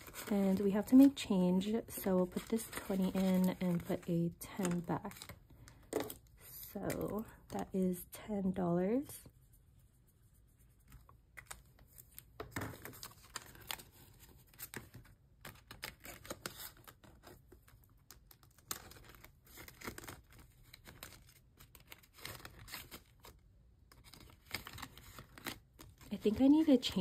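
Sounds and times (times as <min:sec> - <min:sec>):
banknotes and plastic rustling: 0:00.0 - 0:09.3, 0:10.3 - 0:27.0.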